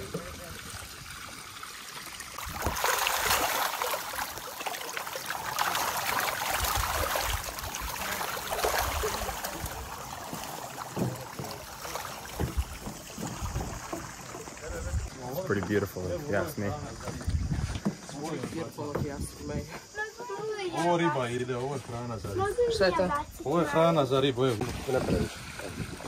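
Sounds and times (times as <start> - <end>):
water splashing and rushing: 0.0 - 17.6, 21.9 - 26.0.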